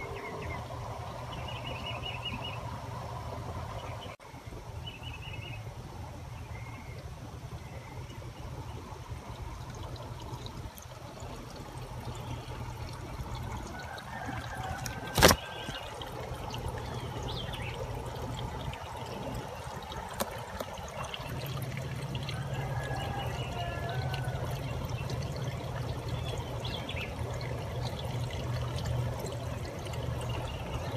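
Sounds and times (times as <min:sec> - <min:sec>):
water trickling and flowing: 0:00.0 - 0:30.9.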